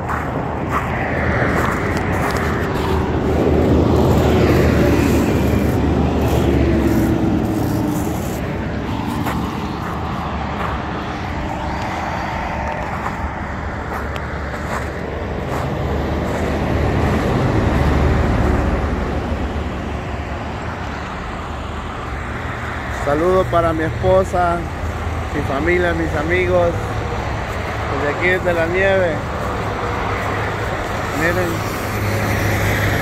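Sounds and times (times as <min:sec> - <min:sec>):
road traffic rumble: 0:00.0 - 0:33.0
vehicle passing: 0:00.0 - 0:33.0.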